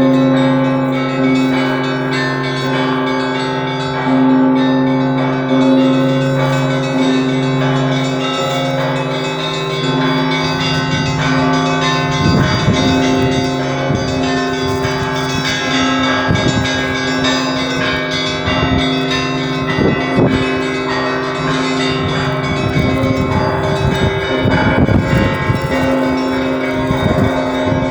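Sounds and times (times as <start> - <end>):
church bells ringing: 0.0 - 27.9
deep bell strokes: 0.0 - 27.9.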